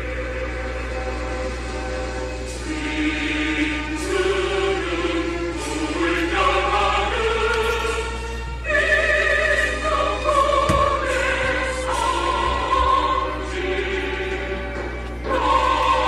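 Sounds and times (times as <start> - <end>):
choir singing slow held notes: 0.0 - 16.0.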